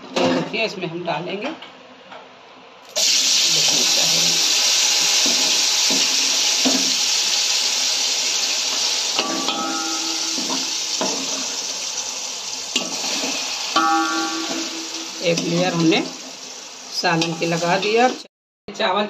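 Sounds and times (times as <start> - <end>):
chicken sizzling in hot oil: 2.9 - 18.3.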